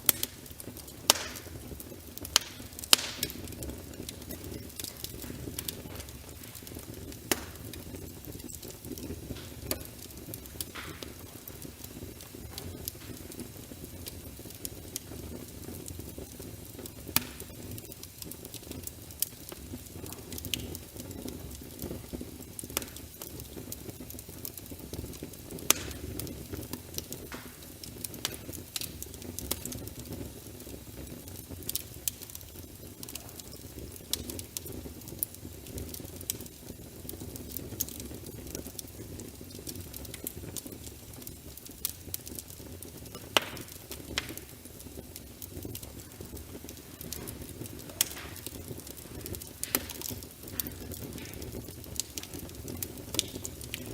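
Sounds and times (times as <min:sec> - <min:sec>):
sharp pops from fire: 0:00.0 - 0:53.9
wood fire crackling: 0:00.0 - 0:53.9.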